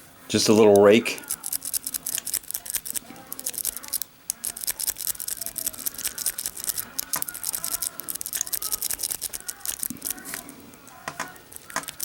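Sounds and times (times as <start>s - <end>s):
lock pick raking padlock pins: 0.5s - 12.0s.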